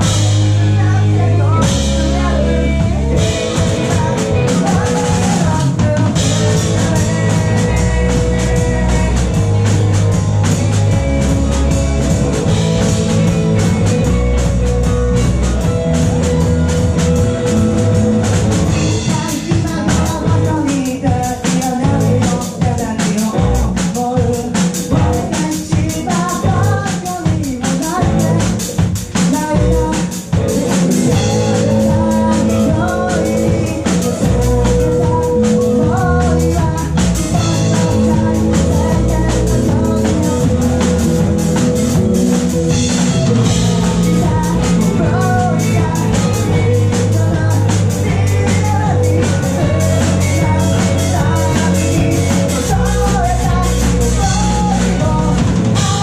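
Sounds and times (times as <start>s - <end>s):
live rock band: 0.0s - 56.0s
person singing: 0.0s - 56.0s.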